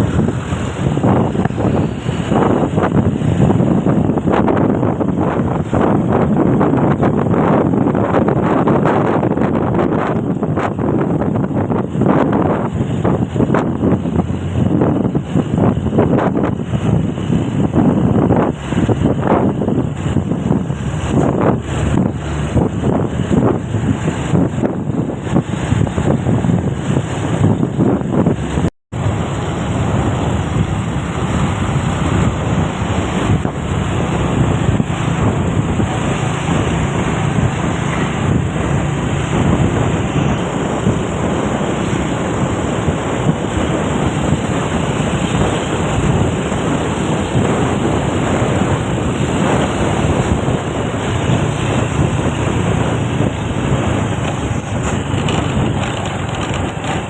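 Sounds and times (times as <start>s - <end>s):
truck engine and road noise: 0.0s - 57.0s
wind buffeting microphone: 0.0s - 57.0s.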